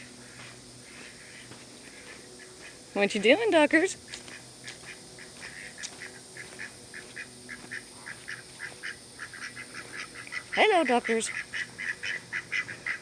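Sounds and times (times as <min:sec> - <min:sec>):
ducks quacking softly: 0:00.2 - 0:02.8, 0:03.5 - 0:13.0.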